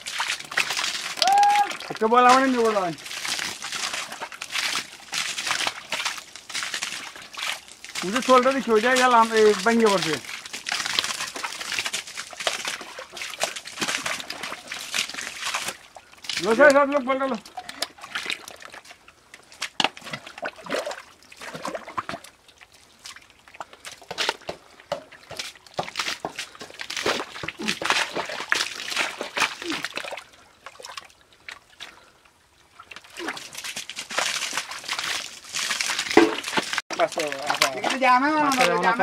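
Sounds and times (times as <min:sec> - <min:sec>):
hands squelching in wet mud: 0:00.0 - 0:39.0.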